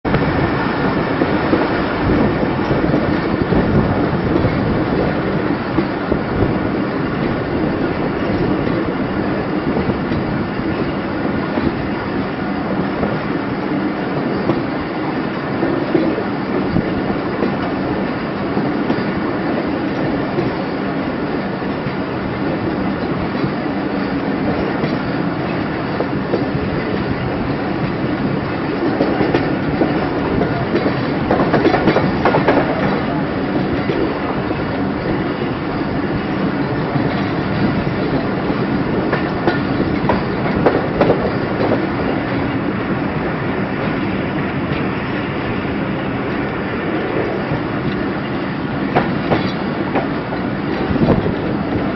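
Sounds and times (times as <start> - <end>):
train wheels on rails: 0.0 - 51.9.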